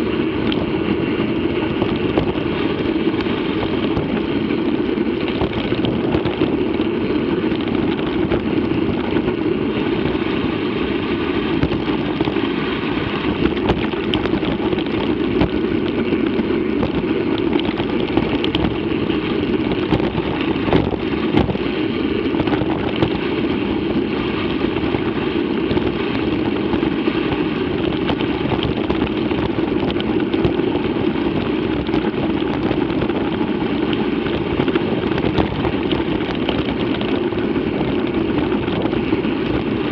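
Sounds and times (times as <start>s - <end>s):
bike clicks and rattles: 0.0s - 39.9s
wind on microphone: 0.0s - 39.9s.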